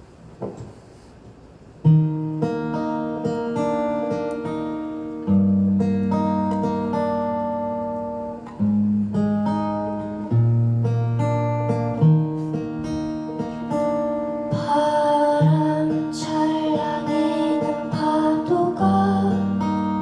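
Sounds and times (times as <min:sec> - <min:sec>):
acoustic guitar playing: 0:01.8 - 0:20.0.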